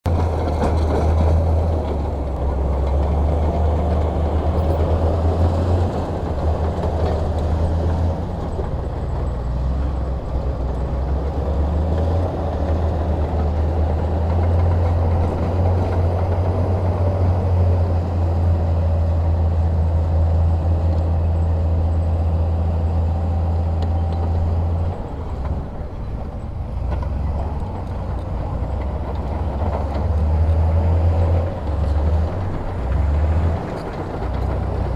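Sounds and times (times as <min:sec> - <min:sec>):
diesel engine droning under load: 0:00.0 - 0:34.9.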